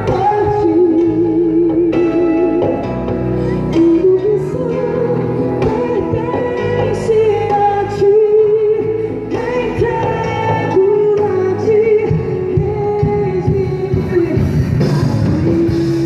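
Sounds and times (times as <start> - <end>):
worship band playing live: 0.0 - 16.0.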